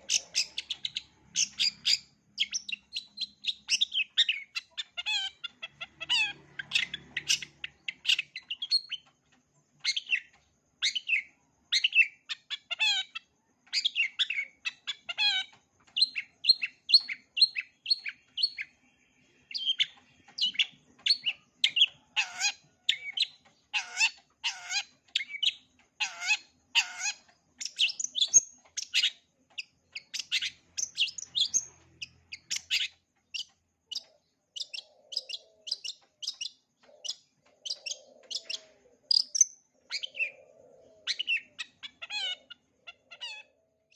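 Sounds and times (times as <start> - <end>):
shrike singing: 0.0 - 9.1, 16.0 - 43.6.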